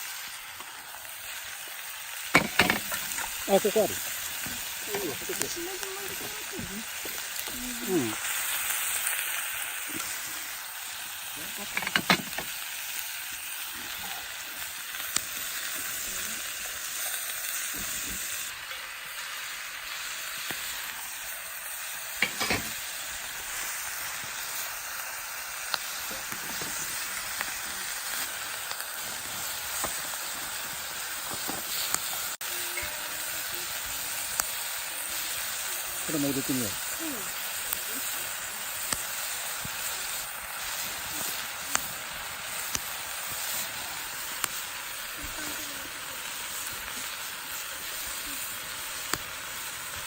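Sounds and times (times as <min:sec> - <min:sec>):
food sizzling in a pan: 0:00.0 - 0:50.0.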